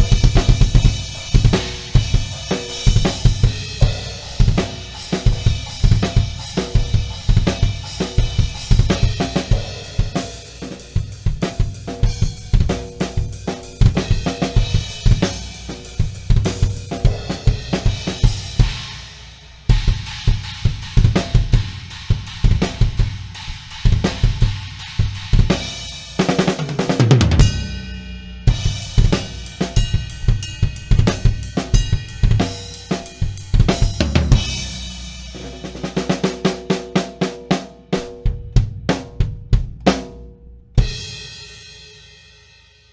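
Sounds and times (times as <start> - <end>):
drum fill down the toms: 0.0 - 42.4
drum kit grooves: 0.0 - 42.9.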